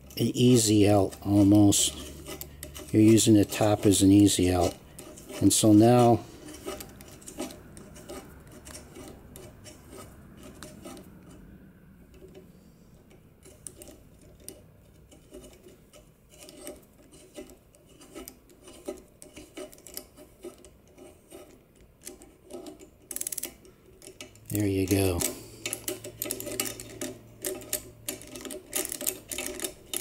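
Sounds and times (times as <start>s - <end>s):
metal-on-metal clicks and scraping: 0.0s - 11.5s, 12.1s - 30.0s.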